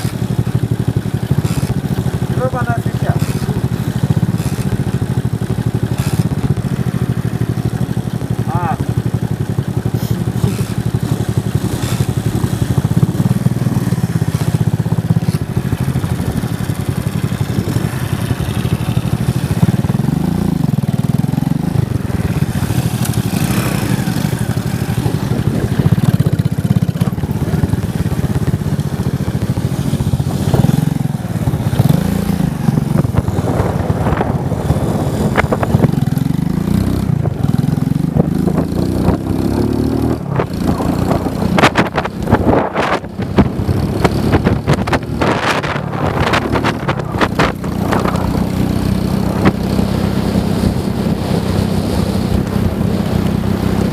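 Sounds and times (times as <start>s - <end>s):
motorcycle engine revving while riding: 0.0s - 53.9s.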